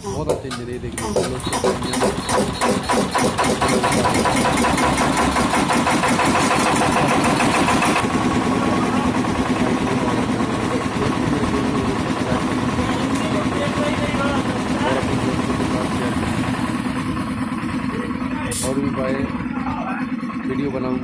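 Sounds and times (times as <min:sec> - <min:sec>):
air compressor engine running: 0:00.0 - 0:21.0.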